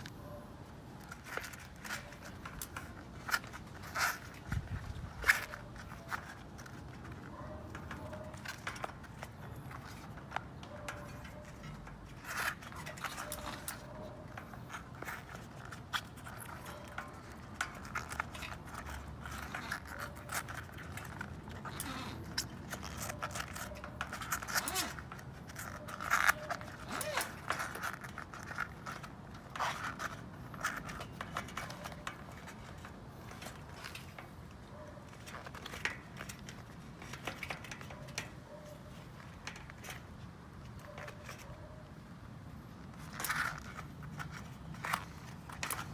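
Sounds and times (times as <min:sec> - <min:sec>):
scraping rubbing and clicking: 0:00.0 - 0:45.9.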